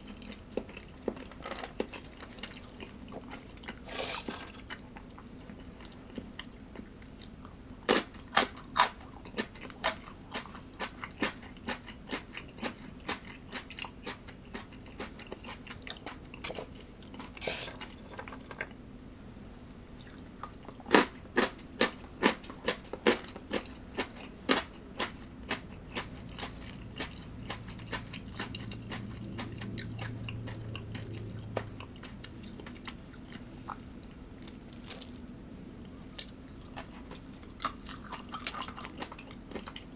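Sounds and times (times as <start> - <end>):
person chewing crunchy food: 0.0 - 18.7, 20.0 - 39.9.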